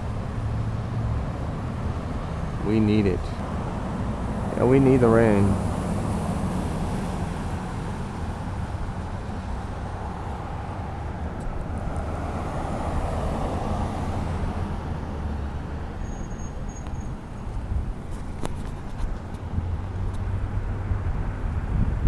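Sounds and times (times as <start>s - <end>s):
road traffic rumble: 0.0s - 22.0s
vehicle passing: 0.0s - 22.0s.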